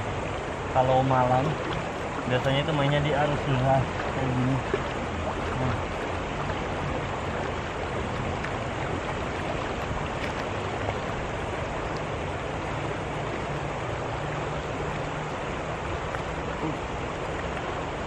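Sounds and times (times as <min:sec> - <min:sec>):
river current rushing: 0:00.0 - 0:18.0.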